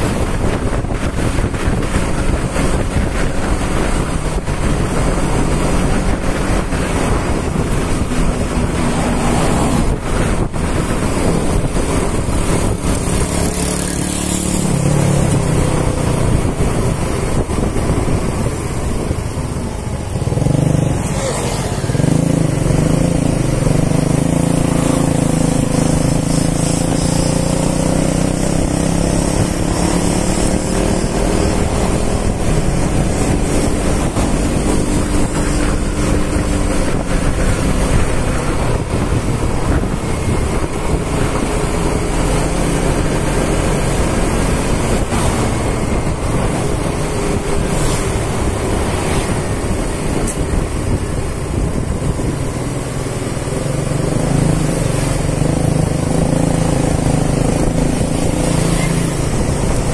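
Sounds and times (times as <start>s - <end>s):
scooter engine running: 0.0s - 59.9s
wind on microphone: 0.0s - 59.9s.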